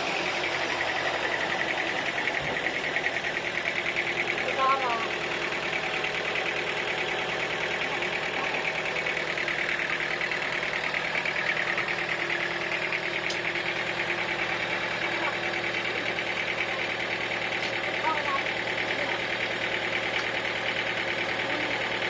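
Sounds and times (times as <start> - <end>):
sawmill engine pulsing: 0.0 - 22.0.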